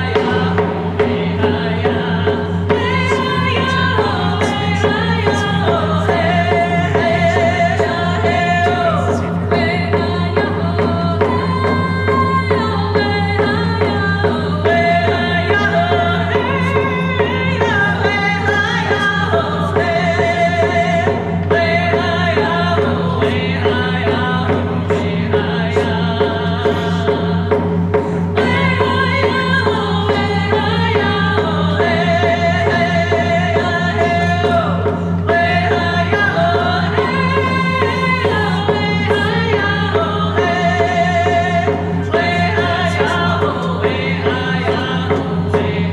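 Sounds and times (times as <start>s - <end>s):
frame drums struck with beaters: 0.0s - 45.9s
women singing together: 0.0s - 45.9s.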